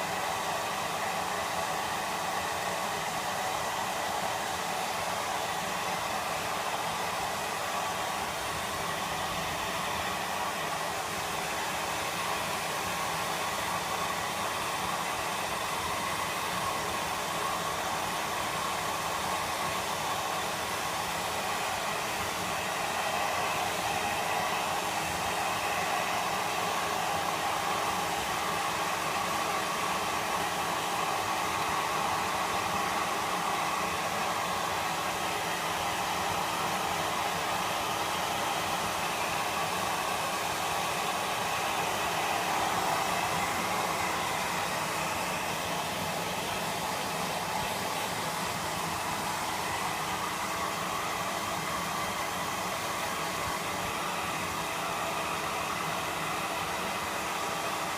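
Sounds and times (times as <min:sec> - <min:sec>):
hair dryer blowing: 0:00.0 - 0:57.9.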